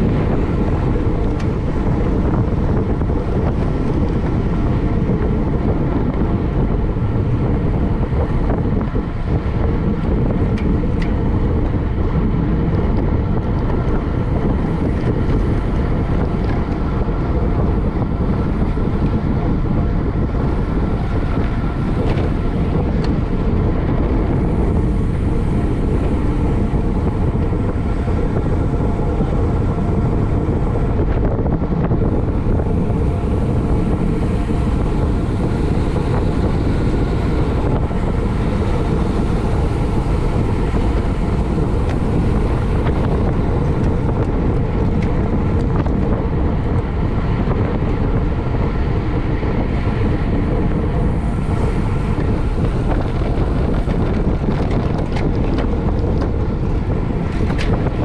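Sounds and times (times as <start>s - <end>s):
bicycle tyres humming on road: 0.0s - 58.0s
wind rushing over microphone: 0.0s - 58.0s.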